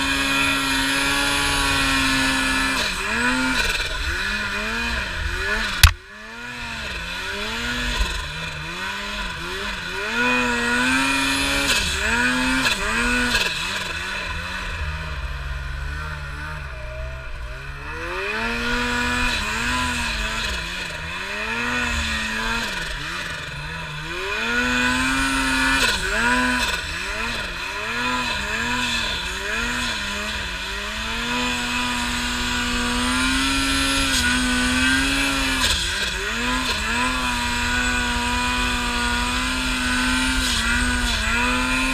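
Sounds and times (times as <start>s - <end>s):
snowmobile engine revving: 0.0s - 41.9s.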